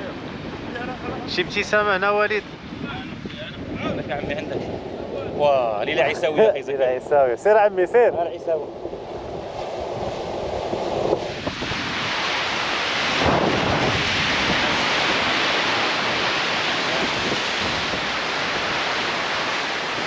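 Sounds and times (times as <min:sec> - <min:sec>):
surf washing against rocks: 0:00.0 - 0:20.0
wind buffeting microphone: 0:00.0 - 0:20.0.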